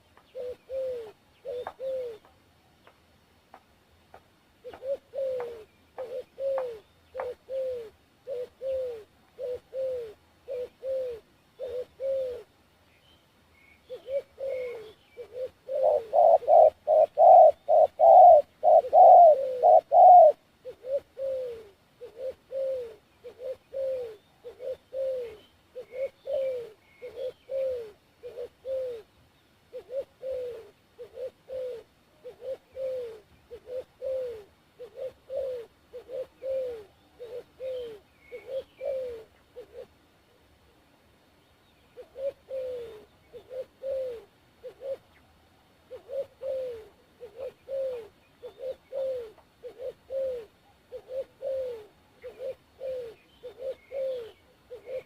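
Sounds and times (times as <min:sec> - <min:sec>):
dove cooing: 0:00.0 - 0:02.4, 0:04.6 - 0:12.5, 0:13.9 - 0:40.0, 0:41.9 - 0:55.0.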